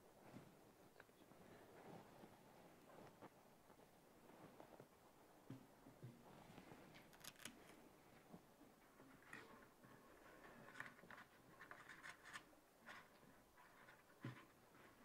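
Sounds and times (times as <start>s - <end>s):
faint clicks and rustles of handling: 0.1s - 15.0s.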